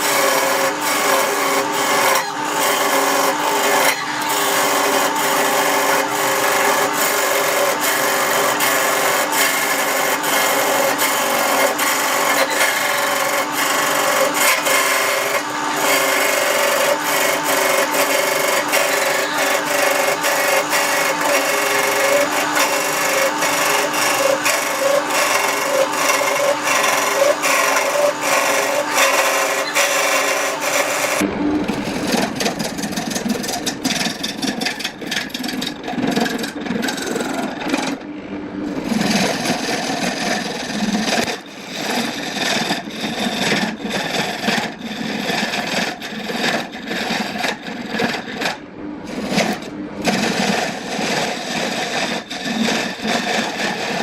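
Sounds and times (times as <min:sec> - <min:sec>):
wood lathe humming and ticking: 0:00.0 - 0:38.1, 0:38.7 - 0:54.0
turning tool scraping wood: 0:00.0 - 0:54.0.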